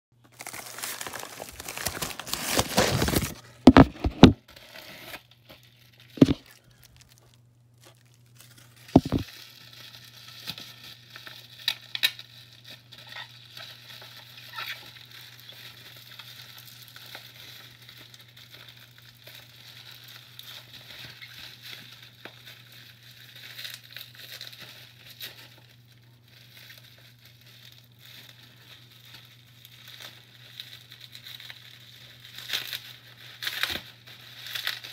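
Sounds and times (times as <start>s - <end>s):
plastic mailer crinkling: 0.2s - 34.9s.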